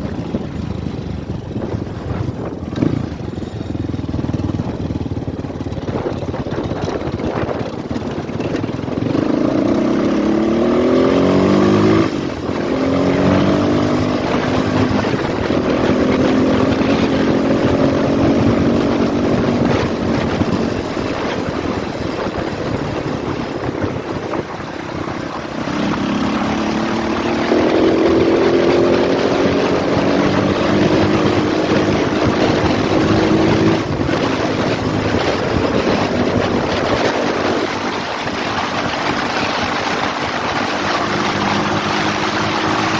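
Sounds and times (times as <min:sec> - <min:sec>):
motorcycle engine revving: 0:00.0 - 0:42.9
wind noise: 0:00.0 - 0:42.9.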